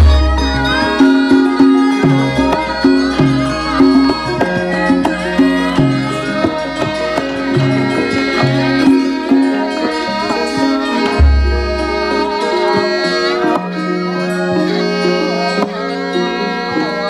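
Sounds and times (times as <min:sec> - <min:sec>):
hand drum strokes: 0:00.0 - 0:15.8
metallophone notes: 0:00.0 - 0:17.0.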